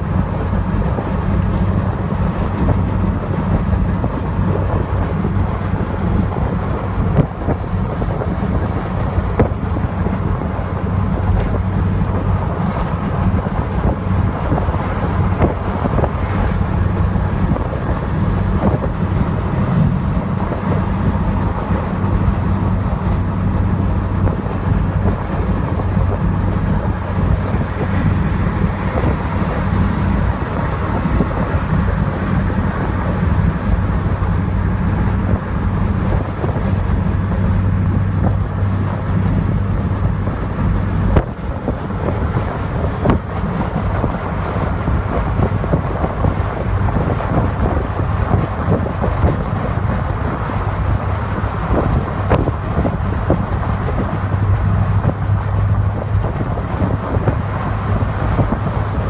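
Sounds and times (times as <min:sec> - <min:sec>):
low engine and tyre drone: 0:00.0 - 0:59.0
wind buffeting microphone: 0:00.0 - 0:59.0.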